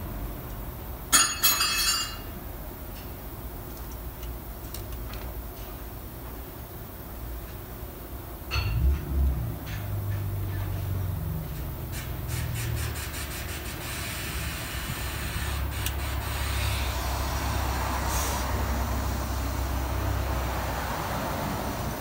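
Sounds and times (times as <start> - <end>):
low mechanical drone with hiss: 0.0 - 22.0.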